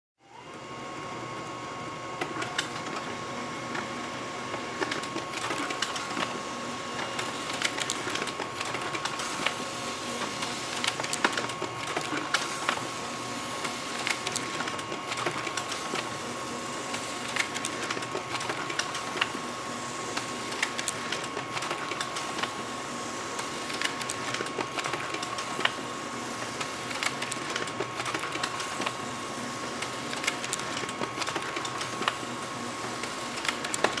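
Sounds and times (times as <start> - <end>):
laser printer whirring: 0.2 - 34.0
printer paper-feed clicks: 0.5 - 34.0.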